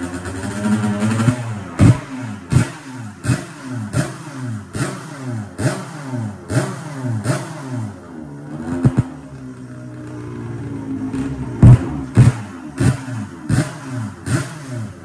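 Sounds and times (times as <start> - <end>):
engine pops and bursts: 0.0 - 15.0.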